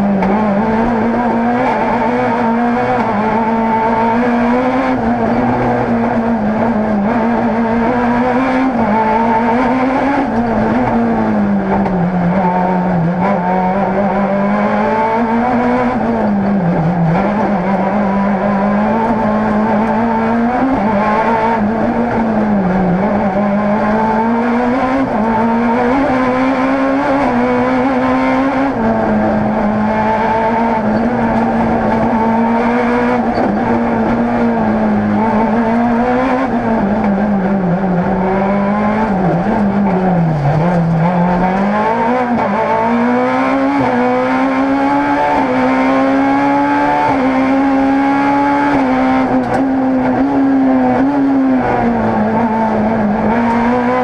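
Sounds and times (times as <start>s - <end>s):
rally car engine from cockpit: 0.0s - 54.0s.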